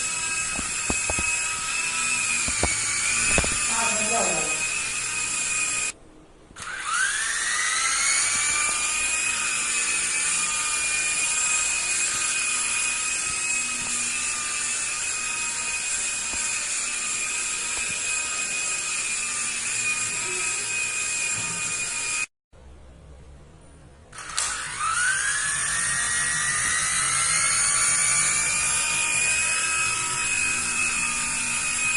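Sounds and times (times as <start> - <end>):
toy helicopter motors whining: 0.0 - 6.0, 6.6 - 22.3, 24.1 - 31.9.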